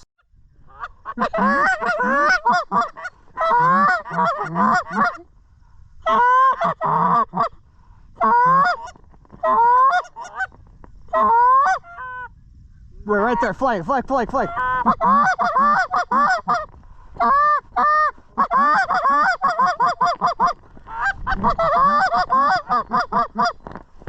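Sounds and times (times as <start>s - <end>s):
geese honking: 0.7s - 5.2s, 6.0s - 7.6s, 8.2s - 10.5s, 11.1s - 12.3s, 13.1s - 23.6s.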